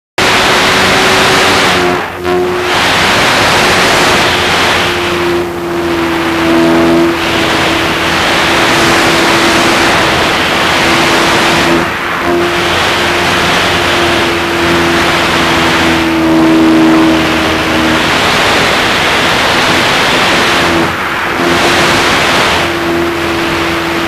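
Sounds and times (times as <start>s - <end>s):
model plane motor droning: 0.2s - 24.0s
wind rush: 0.2s - 24.0s.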